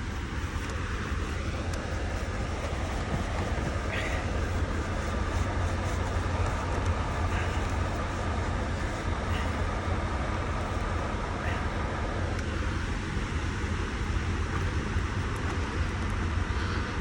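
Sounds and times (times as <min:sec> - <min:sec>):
diesel truck engines idling: 0:00.0 - 0:17.0.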